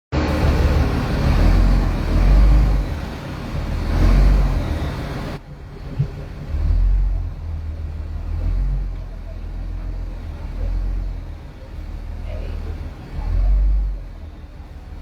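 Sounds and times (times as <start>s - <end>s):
engine low rumble: 0.1s - 15.0s.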